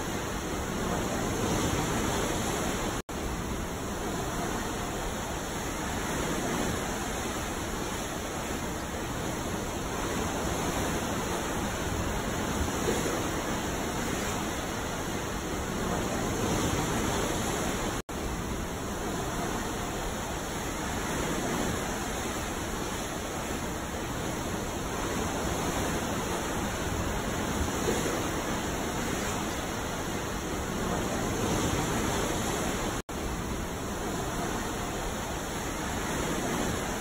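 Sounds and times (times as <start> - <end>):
ocean waves washing: 0.0 - 37.0.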